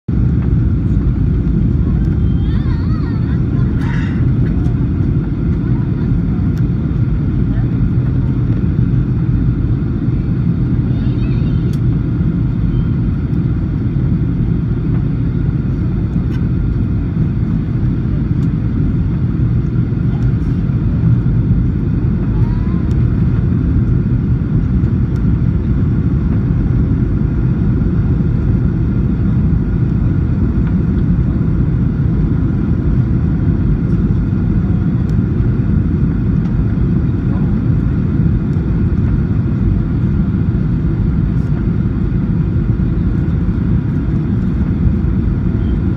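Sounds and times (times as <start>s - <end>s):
jet engine cabin drone: 0.1s - 45.9s.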